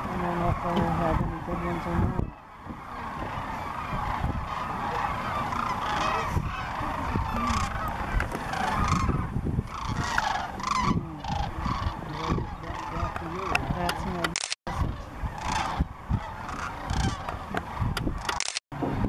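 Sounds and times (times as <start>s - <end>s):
flock of cranes calling: 0.0s - 19.0s.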